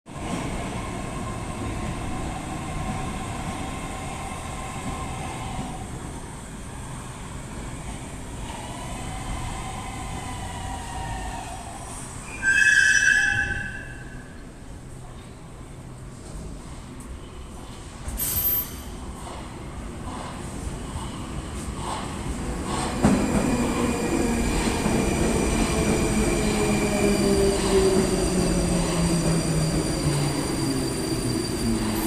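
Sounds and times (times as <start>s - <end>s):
metro train rumble: 0.1s - 32.0s.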